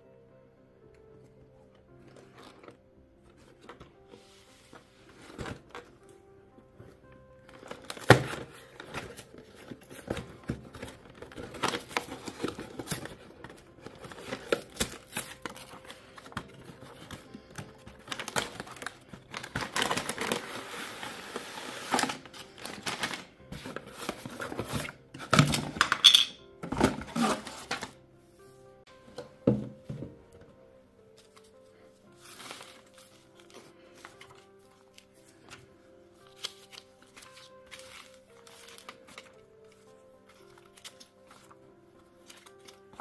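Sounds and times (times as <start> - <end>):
quiet background music: 0.0 - 43.0
paper rustling: 2.0 - 6.0, 7.4 - 25.9, 26.6 - 28.0, 31.2 - 43.0.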